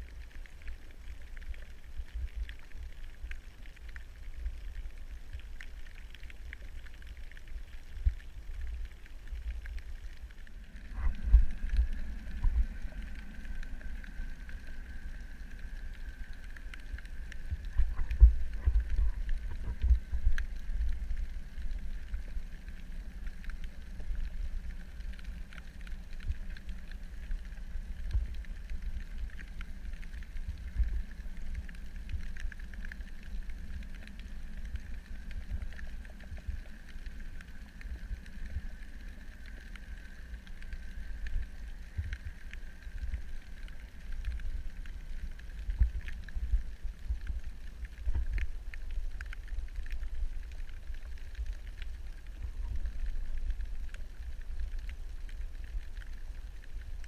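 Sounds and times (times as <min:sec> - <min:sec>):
faint steady hum: 0:00.0 - 0:57.0
underwater rumble of water: 0:00.0 - 0:57.0.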